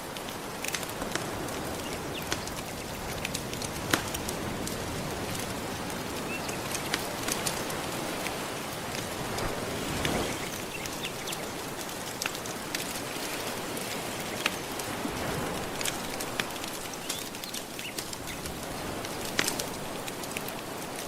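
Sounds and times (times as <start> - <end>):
gentle surf: 0.0 - 21.0
wood fire crackling and popping: 0.0 - 21.0.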